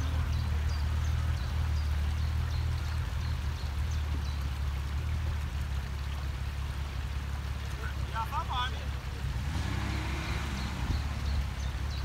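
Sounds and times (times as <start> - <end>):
off-road vehicle engine droning: 0.0 - 12.0.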